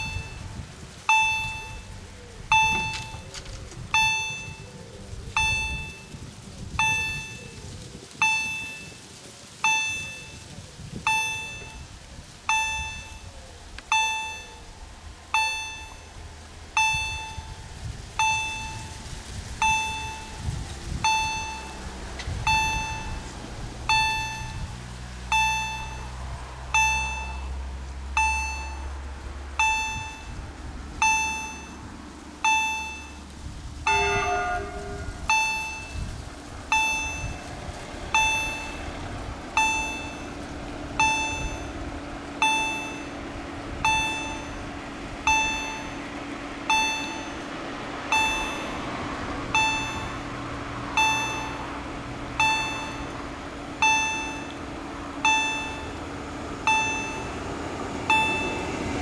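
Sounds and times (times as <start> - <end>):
level crossing warning bell: 0.0 - 59.0.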